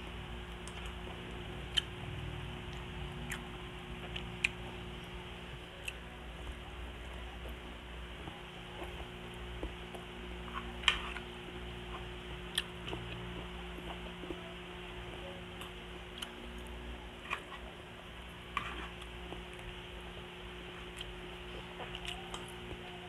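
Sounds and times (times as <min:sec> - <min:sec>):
faint steady hum: 0:00.0 - 0:23.0
person chewing food: 0:00.4 - 0:06.1, 0:08.8 - 0:14.3, 0:15.5 - 0:22.9.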